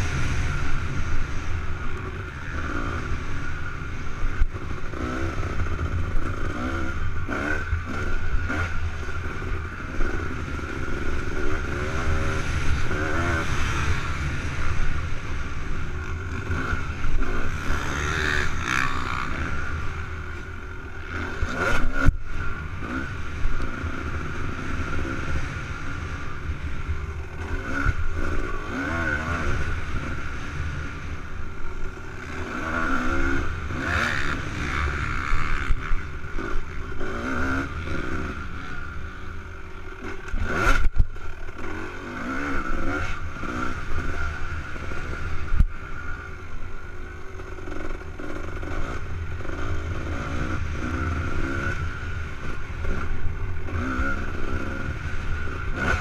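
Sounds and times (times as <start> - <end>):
two-stroke motorcycle engine revving: 0.0 - 56.0.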